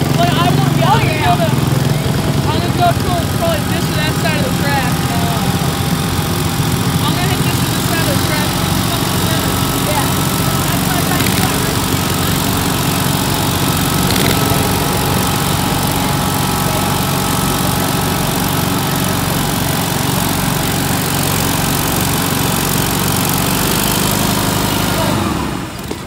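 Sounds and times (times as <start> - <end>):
tractor engine at full throttle: 0.0 - 26.0.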